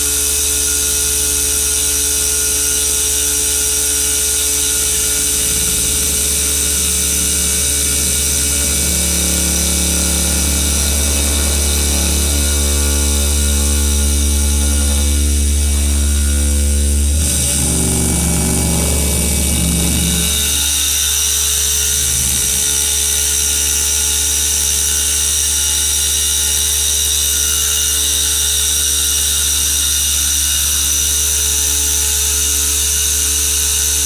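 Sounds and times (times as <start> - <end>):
machine hum: 0.0 - 34.0
cutting hiss and spraying water: 0.1 - 34.0.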